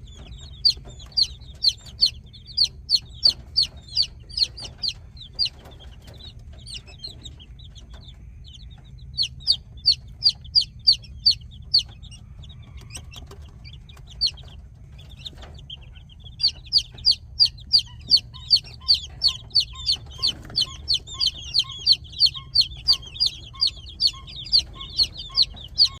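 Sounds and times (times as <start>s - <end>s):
baby chicks peeping: 0.0s - 26.0s
steady low hum: 0.0s - 26.0s.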